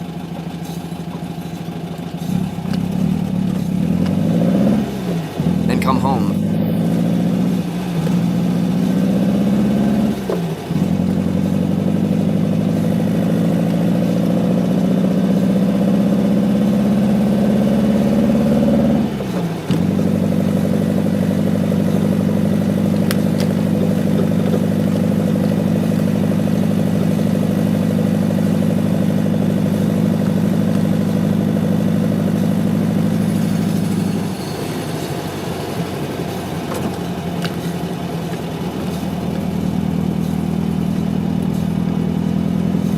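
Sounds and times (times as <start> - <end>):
car engine while driving: 0.0 - 42.9.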